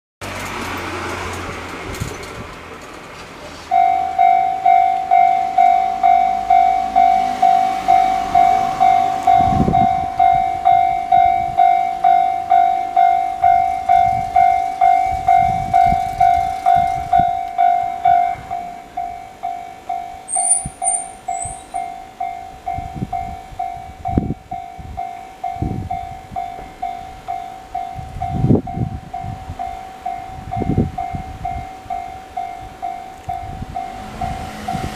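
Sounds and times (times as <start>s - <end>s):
train wheels over rail joints: 0.2s - 34.9s
level-crossing alarm bell: 3.7s - 34.9s.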